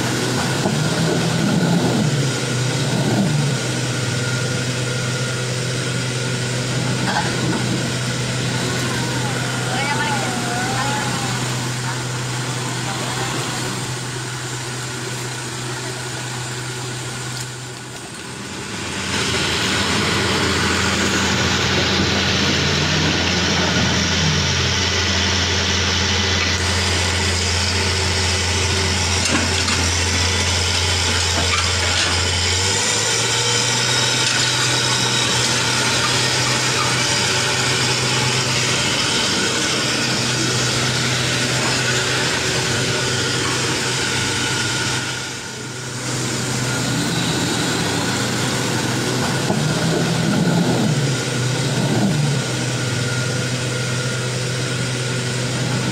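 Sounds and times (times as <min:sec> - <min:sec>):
truck engine humming: 0:00.0 - 0:55.9.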